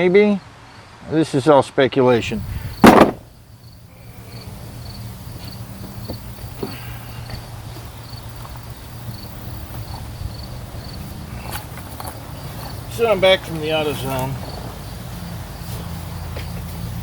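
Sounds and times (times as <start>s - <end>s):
crickets chirping: 2.1s - 17.0s.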